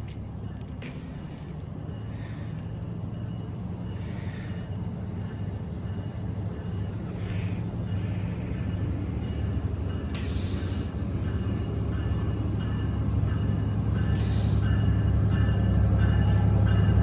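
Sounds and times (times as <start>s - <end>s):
train engine hum: 0.0s - 17.0s.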